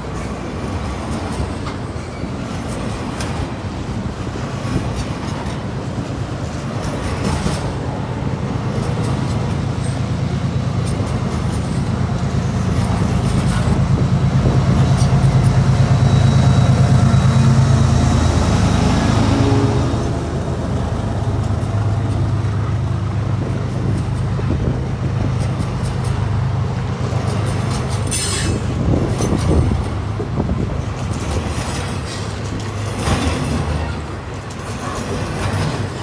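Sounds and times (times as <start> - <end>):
diesel locomotive drone: 0.0 - 36.0.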